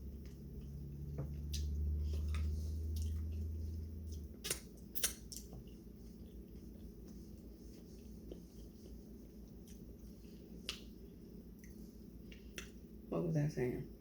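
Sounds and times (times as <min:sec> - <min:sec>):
wet squishy chewing: 0:00.0 - 0:12.8
low hum: 0:00.0 - 0:13.1.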